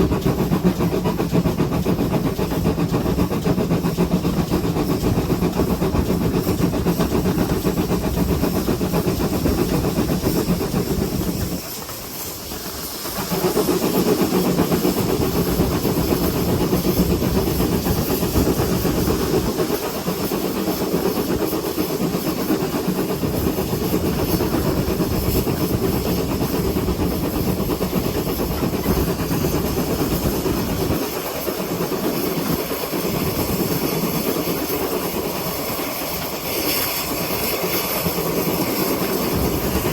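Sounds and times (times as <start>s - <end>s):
steam hissing: 0.0s - 39.9s
steam locomotive running: 0.0s - 39.9s.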